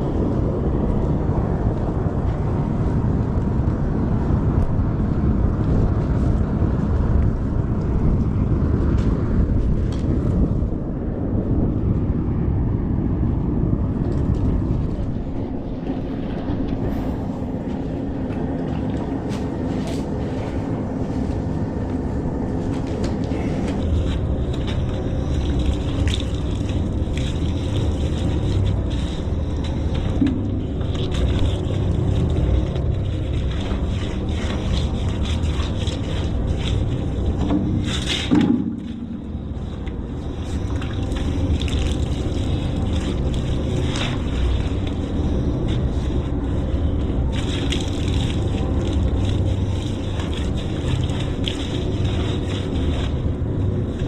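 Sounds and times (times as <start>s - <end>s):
machine low rumble: 0.0s - 54.0s.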